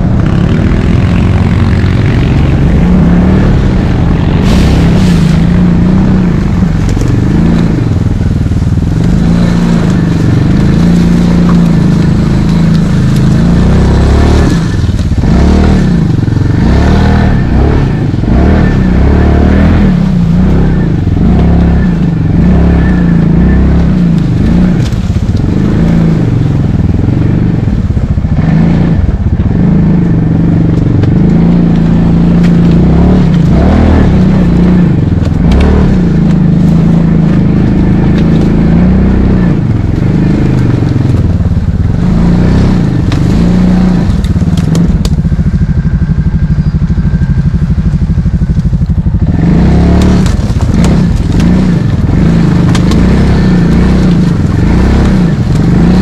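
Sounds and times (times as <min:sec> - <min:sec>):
atv engine running under load: 0:00.0 - 0:56.0.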